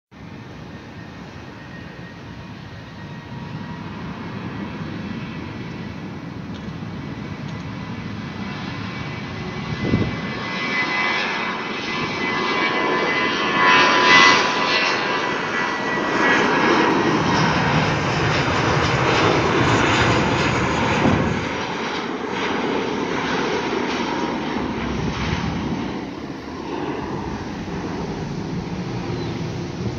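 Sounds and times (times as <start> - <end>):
high steady engine whine: 0.2 - 29.9
jet engines rumbling: 0.2 - 29.9.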